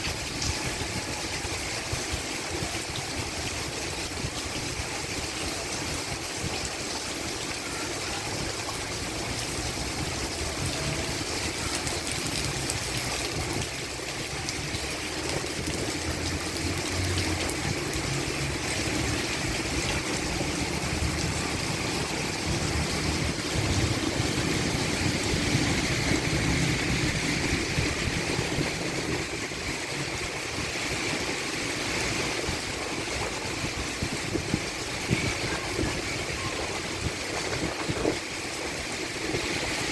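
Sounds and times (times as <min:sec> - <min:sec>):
heavy rain pouring: 0:00.0 - 0:39.9
water draining off roof: 0:00.0 - 0:39.9.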